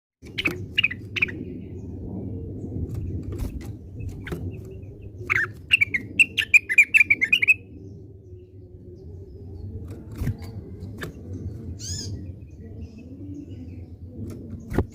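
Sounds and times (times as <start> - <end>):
low background rumble: 0.2 - 14.9
songbird chirping: 0.2 - 14.9.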